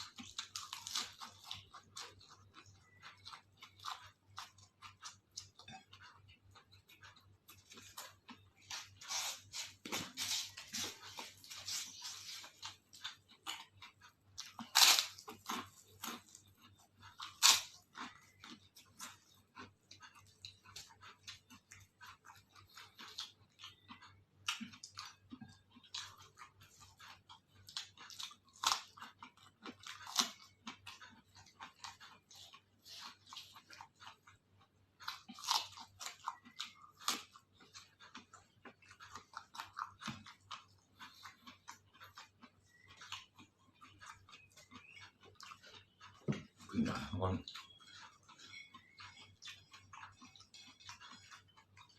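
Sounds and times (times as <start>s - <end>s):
chewing crisp food: 0.0s - 51.9s.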